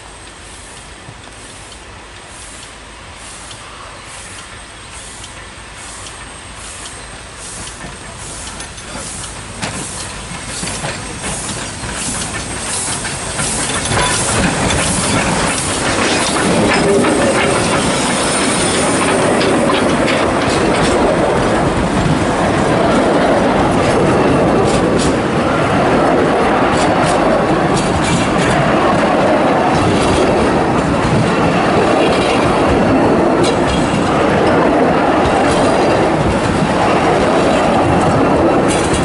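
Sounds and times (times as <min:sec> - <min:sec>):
steam locomotive exhaust beats: 0:00.0 - 0:39.0
wheels clattering over rail joints: 0:07.7 - 0:39.0.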